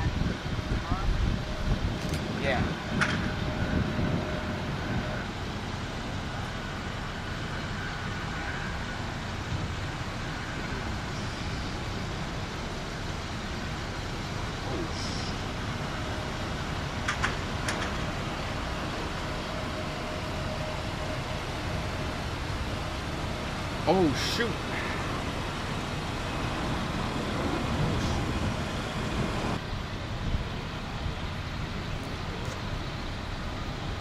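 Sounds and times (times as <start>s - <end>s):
distant jet engines at takeoff: 0.0s - 34.0s.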